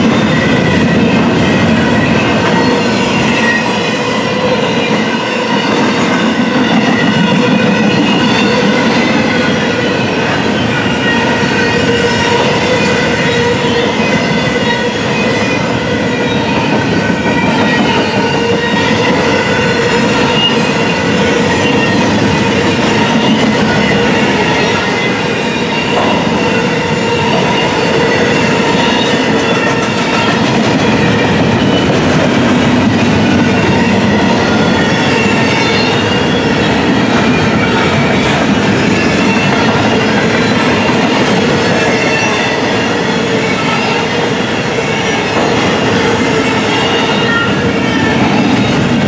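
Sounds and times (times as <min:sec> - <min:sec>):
train wheels rumbling on rail: 0:00.0 - 0:49.0
high-pitched wheel squeal: 0:00.3 - 0:32.0, 0:33.1 - 0:48.9.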